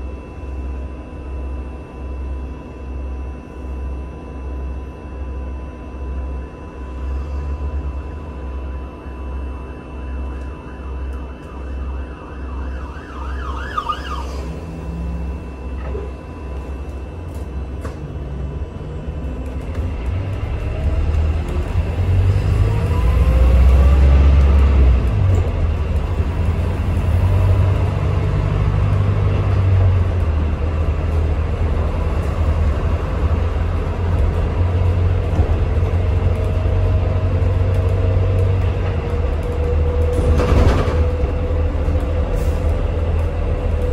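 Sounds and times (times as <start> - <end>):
bus engine rumble: 0.0 - 43.9
drivetrain whine: 0.0 - 43.9.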